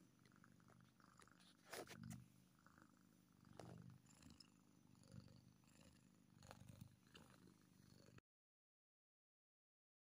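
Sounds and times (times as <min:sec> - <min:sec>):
cat purring: 0:00.0 - 0:08.2.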